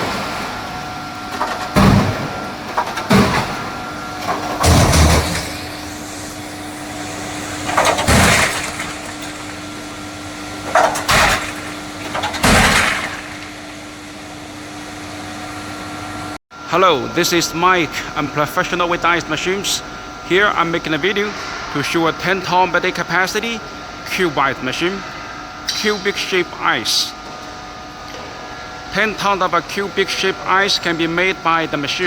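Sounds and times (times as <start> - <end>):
machinery humming: 0.0 - 32.0.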